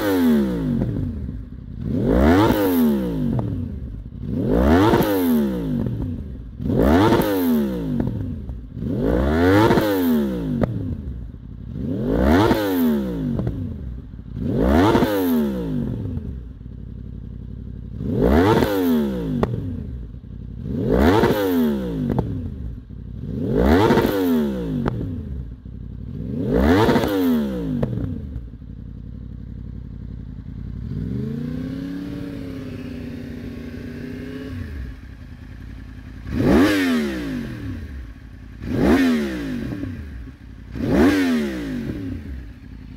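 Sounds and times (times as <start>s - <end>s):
motorcycle engine idling: 0.0s - 42.9s
motorcycle engine revving: 0.0s - 42.9s.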